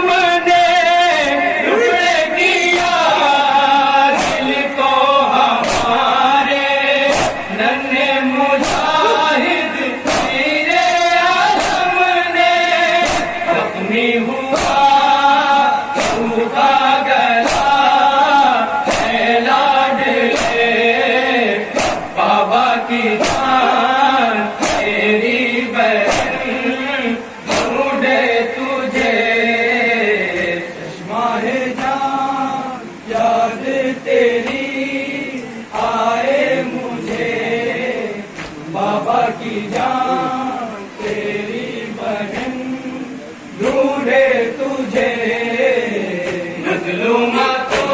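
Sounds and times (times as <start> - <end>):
men chanting a lament: 0.0 - 47.9
rhythmic chest-beating slaps: 0.4 - 43.0, 43.6 - 47.9.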